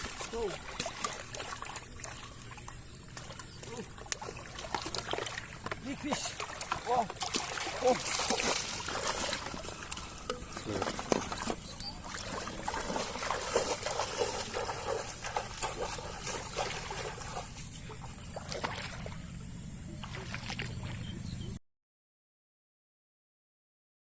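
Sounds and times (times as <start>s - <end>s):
water splashing and dribbling: 0.0s - 21.2s.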